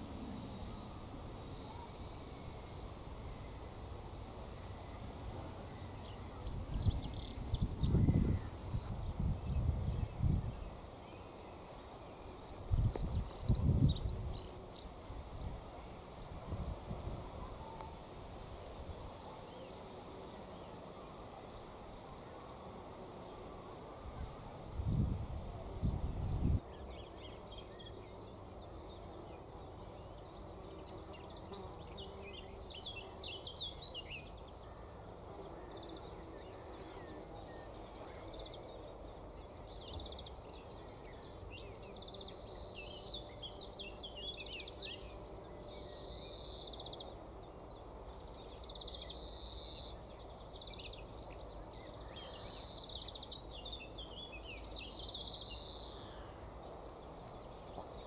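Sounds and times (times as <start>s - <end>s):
small birds chirping: 5.7s - 15.6s, 19.4s - 58.0s.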